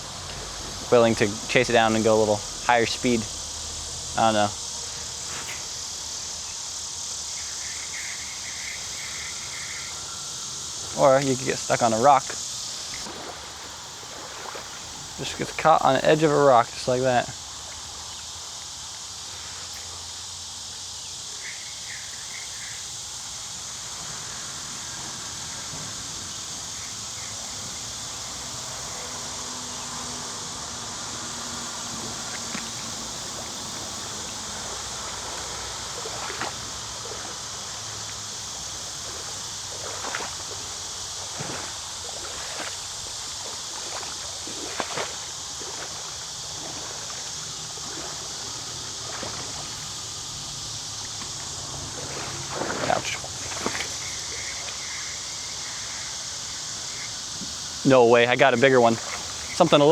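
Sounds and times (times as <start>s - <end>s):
creek water running over rocks: 0.0s - 59.9s.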